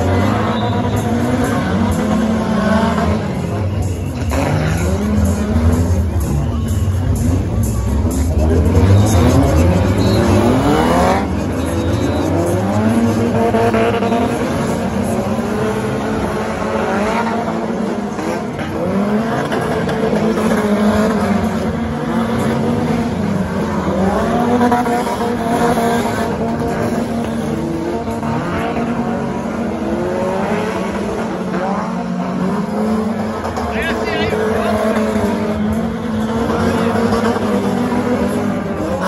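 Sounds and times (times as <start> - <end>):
stock car engines revving: 0.0 - 39.0.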